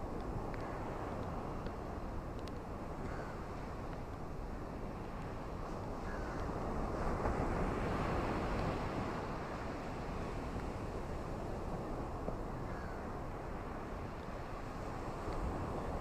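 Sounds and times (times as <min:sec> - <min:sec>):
ocean waves washing on beach: 0:00.0 - 0:16.0.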